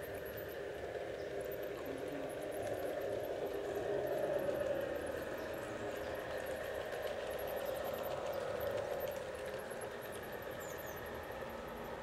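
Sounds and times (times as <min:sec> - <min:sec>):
wheels ticking on rails: 0:00.0 - 0:12.0.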